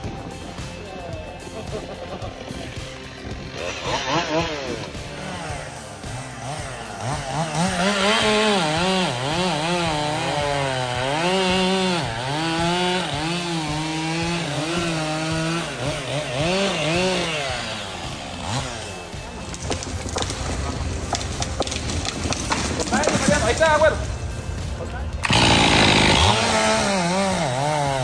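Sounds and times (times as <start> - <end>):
engine revving: 1.4 - 28.0.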